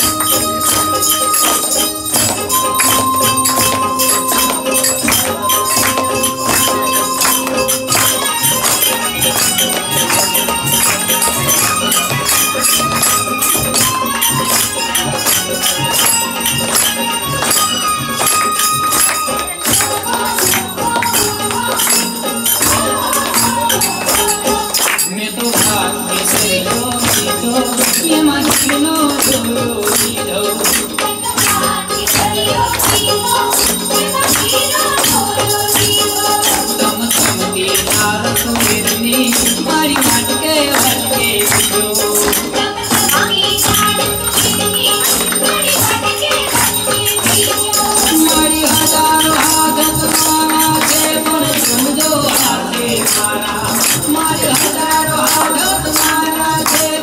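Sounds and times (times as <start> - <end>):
fast percussion beat: 0.0 - 57.0
held melody notes: 0.0 - 57.0
person singing: 0.0 - 57.0.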